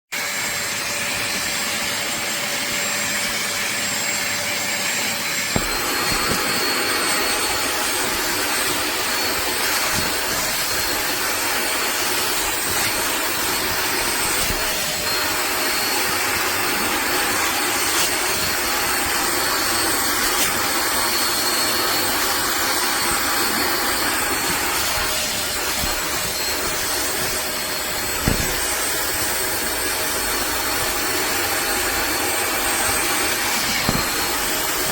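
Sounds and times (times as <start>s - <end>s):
water vacuum whining motor: 0.2s - 34.9s.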